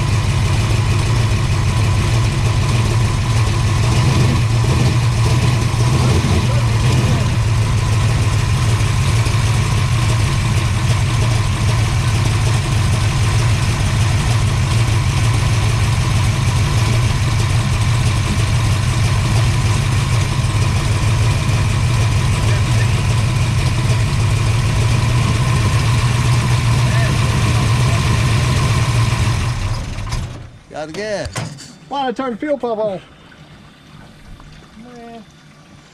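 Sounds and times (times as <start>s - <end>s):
loud engine idling: 0.0s - 35.1s.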